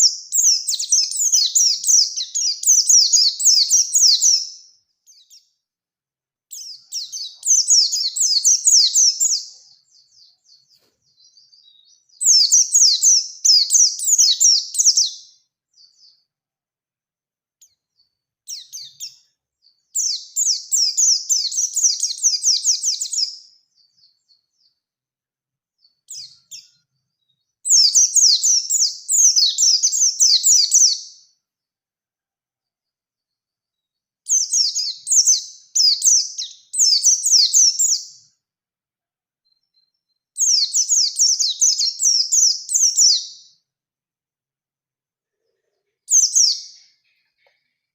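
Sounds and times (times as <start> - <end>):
bird singing rolling phrases: 0.0 - 5.8, 6.5 - 16.5, 17.6 - 31.7, 32.6 - 38.5, 39.4 - 43.8, 45.4 - 47.9.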